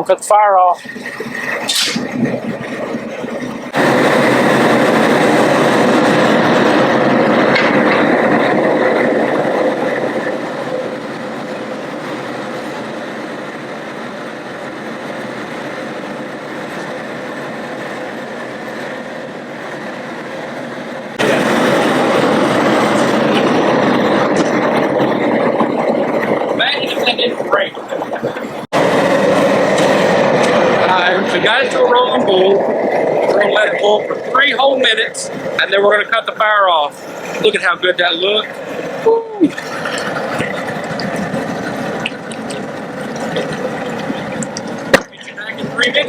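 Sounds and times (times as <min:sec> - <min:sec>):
propane burner roaring: 0:00.0 - 0:46.0.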